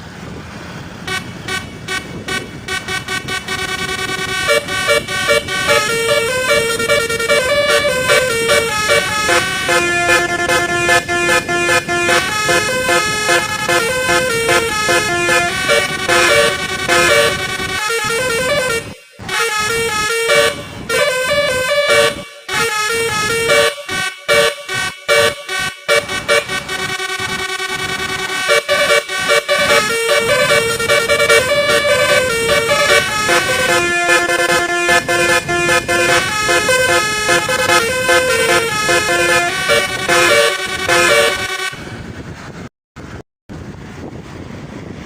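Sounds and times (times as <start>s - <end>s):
musical bus air horn melody: 1.0s - 42.2s.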